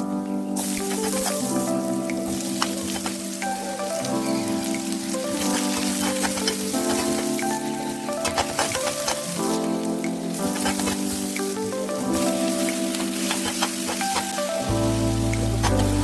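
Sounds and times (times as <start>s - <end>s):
background music of held notes: 0.0s - 16.0s
crackles and pops: 0.3s - 16.0s
food sizzling in a pan: 0.6s - 16.0s.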